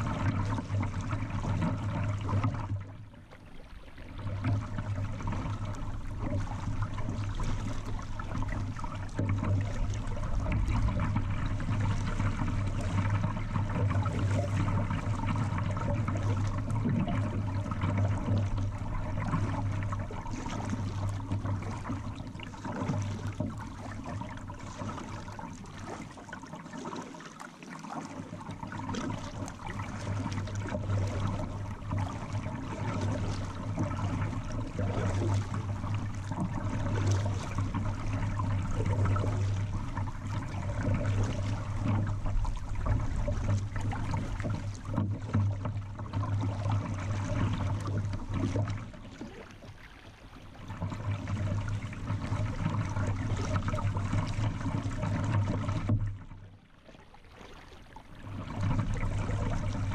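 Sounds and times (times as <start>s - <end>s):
river water splashing against kayak: 0.0s - 59.9s.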